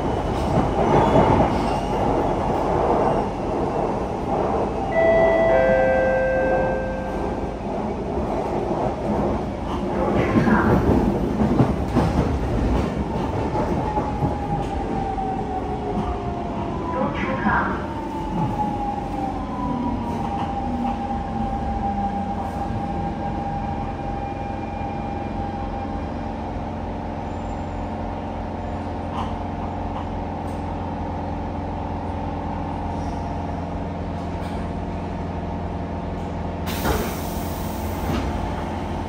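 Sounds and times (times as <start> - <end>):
train humming at standstill: 0.0 - 39.0.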